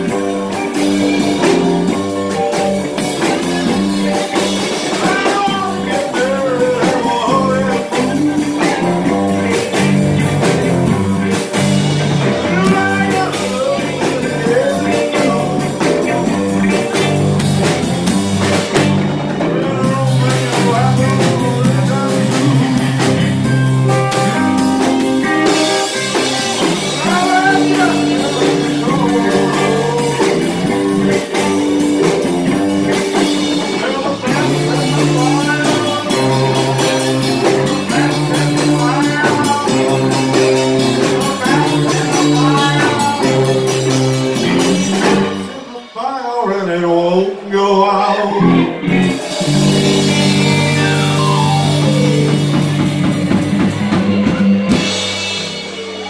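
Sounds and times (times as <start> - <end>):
man singing: 0.0 - 11.6, 12.2 - 17.5, 19.3 - 52.2
drum kit: 0.0 - 46.9, 48.3 - 56.0
bass guitar: 0.0 - 56.0
electric guitars: 0.0 - 56.0.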